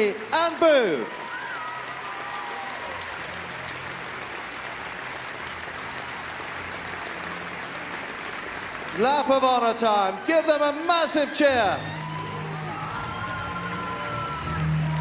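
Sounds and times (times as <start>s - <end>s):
audience applauding: 0.0s - 15.0s
crowd cheering: 0.0s - 15.0s.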